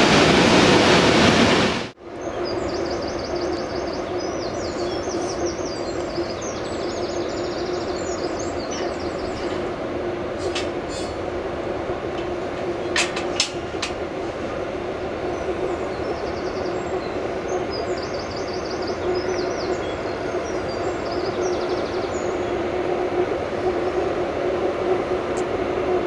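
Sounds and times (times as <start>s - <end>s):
electric locomotive humming: 0.0s - 26.0s
rail yard noise: 0.0s - 26.0s.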